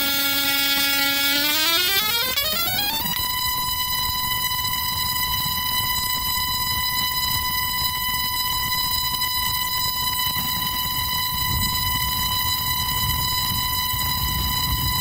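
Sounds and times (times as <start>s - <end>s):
tesla coil sparks buzzing: 0.0s - 14.6s.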